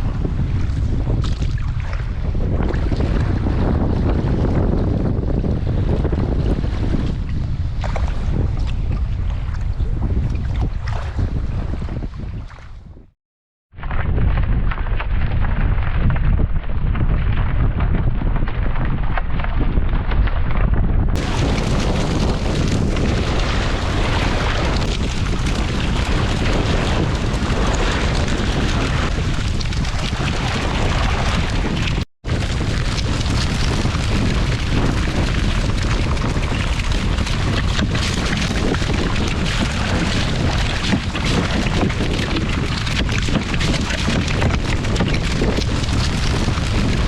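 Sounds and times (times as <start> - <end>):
storm wind buffeting microphone: 0.0 - 13.1, 13.8 - 47.0.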